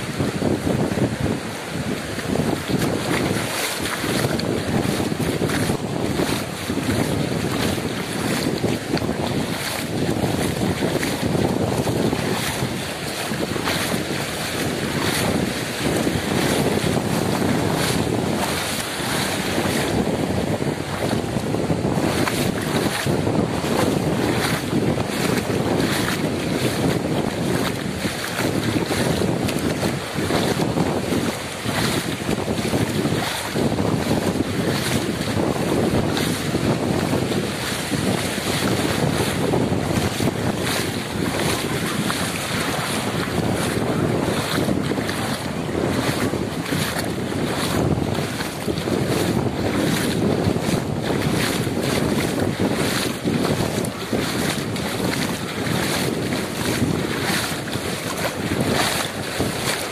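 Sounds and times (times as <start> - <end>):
bare feet splashing in water: 0.0 - 59.9
sea surf: 0.0 - 59.9
wind buffeting microphone: 0.0 - 59.9.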